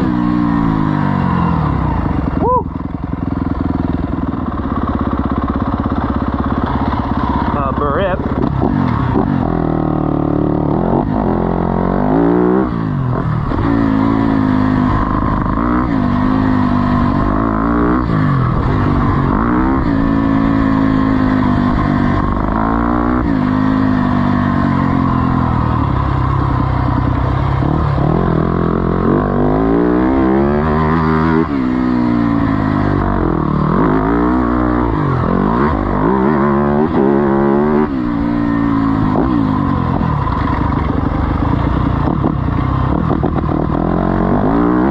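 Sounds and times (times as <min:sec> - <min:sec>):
motocross engine revving: 0:00.0 - 0:44.9.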